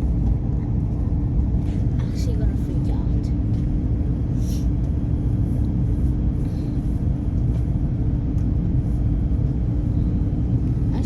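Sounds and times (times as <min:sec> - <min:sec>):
airliner engines rumbling: 0:00.0 - 0:11.0
constant cabin hum: 0:00.0 - 0:11.0.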